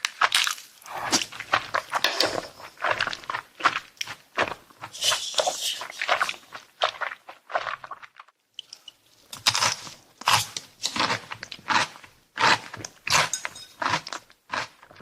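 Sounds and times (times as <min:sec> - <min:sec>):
chewing and crunching food: 0:00.0 - 0:15.0.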